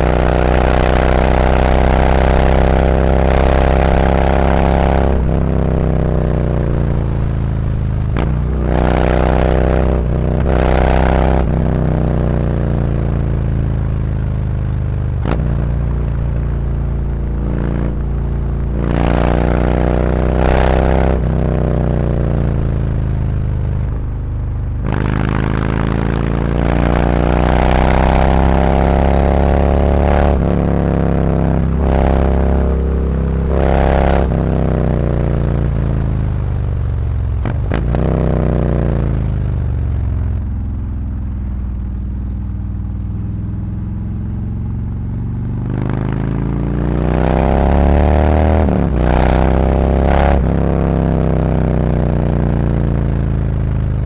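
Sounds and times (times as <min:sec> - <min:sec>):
motorcycle engine revving through gears: 0:00.0 - 0:42.0, 0:42.8 - 0:54.0.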